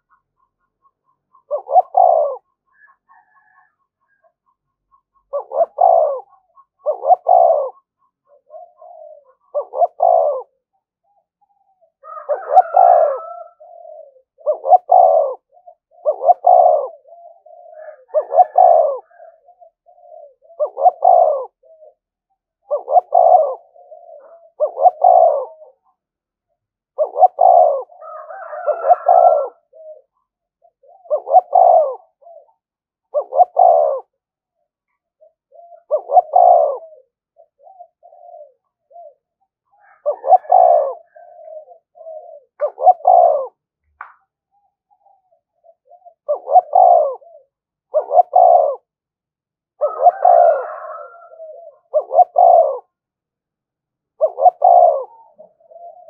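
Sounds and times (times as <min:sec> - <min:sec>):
dove cooing: 0:00.0 - 0:43.7, 0:44.5 - 0:49.0, 0:49.7 - 0:53.0, 0:54.0 - 0:56.0.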